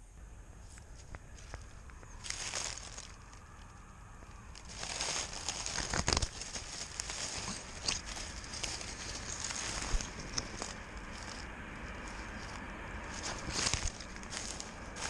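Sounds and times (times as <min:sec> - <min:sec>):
close rustling and crackling: 0:00.6 - 0:15.0.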